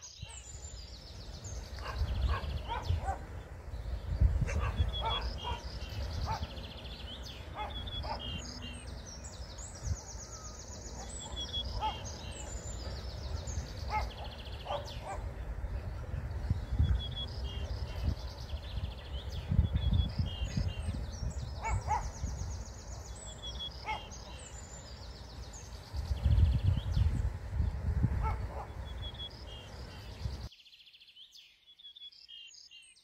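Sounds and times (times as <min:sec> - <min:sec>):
short low bird calls: 0:00.0 - 0:27.2
wind rumbling on microphone: 0:00.0 - 0:30.5
songbirds trilling and chirping: 0:00.0 - 0:33.0.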